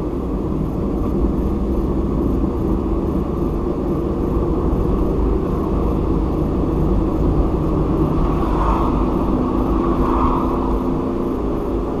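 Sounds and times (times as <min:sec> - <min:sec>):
car engine hum: 0:00.0 - 0:12.0
faint engine drone: 0:00.0 - 0:12.0
tyre road noise: 0:00.0 - 0:12.0.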